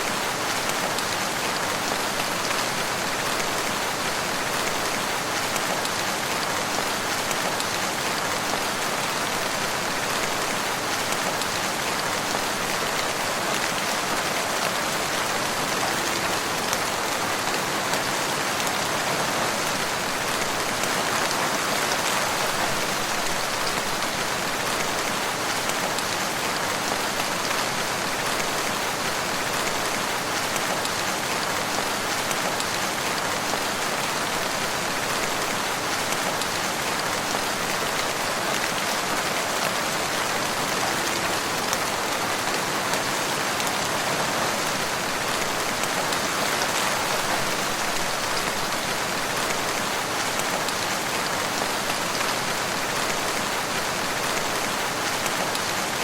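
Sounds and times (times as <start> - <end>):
rain pattering in woodland: 0.0 - 56.0.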